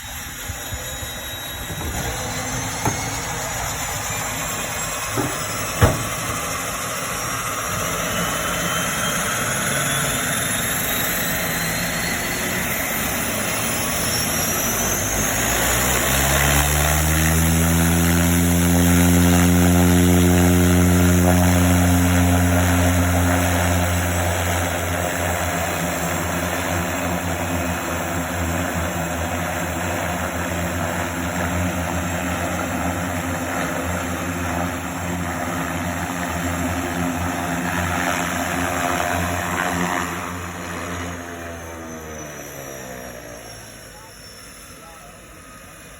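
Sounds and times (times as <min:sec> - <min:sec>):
aircraft engine and propeller running: 0:00.0 - 0:45.9
aircraft engine starting whine: 0:00.0 - 0:45.9.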